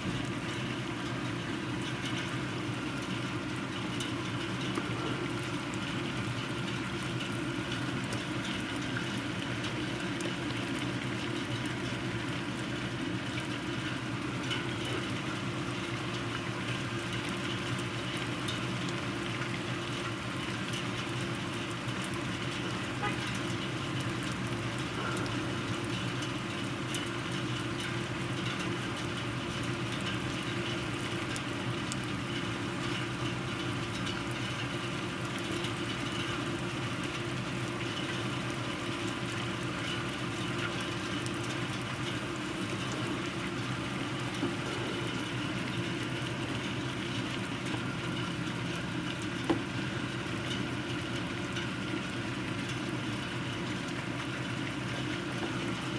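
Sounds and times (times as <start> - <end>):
constant low hum: 0.0 - 55.9
steady rain: 0.0 - 55.9.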